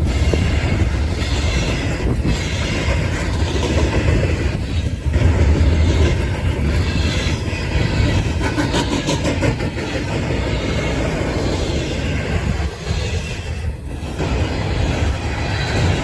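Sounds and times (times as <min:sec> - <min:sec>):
steel wheels rumbling on rails: 0:00.0 - 0:16.0.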